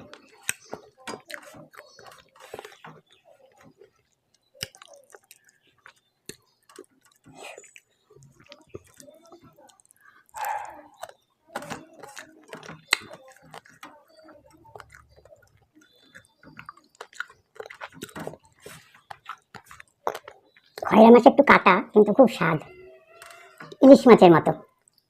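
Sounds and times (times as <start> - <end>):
wet mouth clicks and smacks: 0.0 - 20.9
person chewing food: 0.0 - 21.0, 22.6 - 24.0, 24.6 - 25.0.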